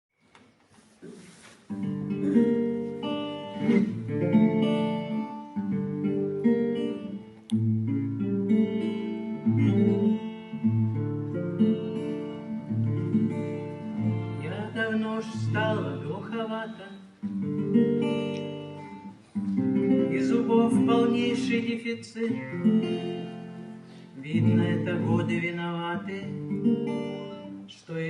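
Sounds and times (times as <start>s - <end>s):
acoustic guitar strumming: 1.6s - 28.0s.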